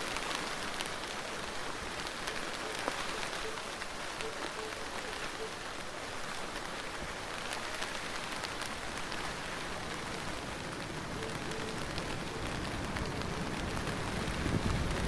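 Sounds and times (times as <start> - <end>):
raindrops hitting a surface: 0.0 - 15.0
steady rain hiss: 0.0 - 15.0.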